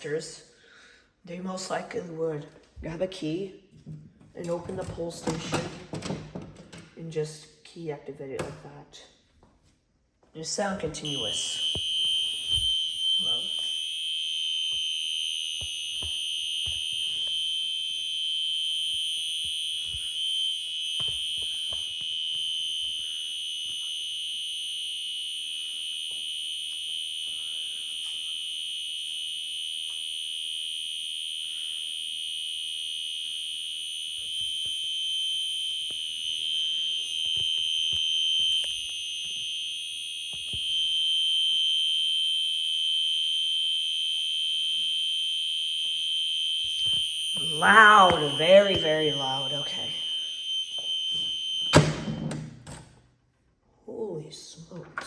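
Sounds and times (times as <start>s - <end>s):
fire alarm continuous tone: 0.0s - 7.7s, 10.4s - 53.2s.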